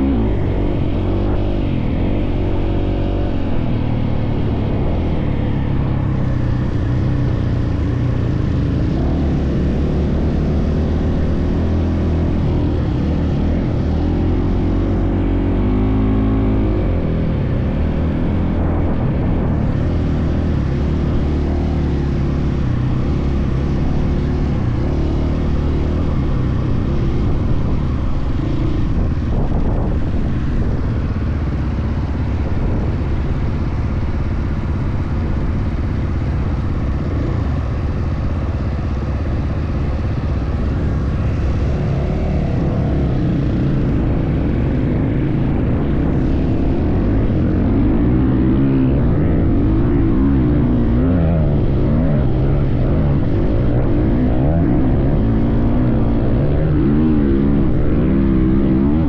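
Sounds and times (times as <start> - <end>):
wind on microphone: 0.0 - 59.0.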